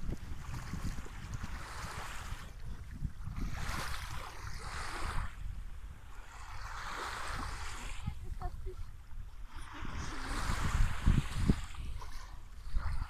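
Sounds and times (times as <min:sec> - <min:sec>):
small waves washing in shallows: 0:00.0 - 0:13.0
wind rumbling on microphone: 0:00.0 - 0:13.0.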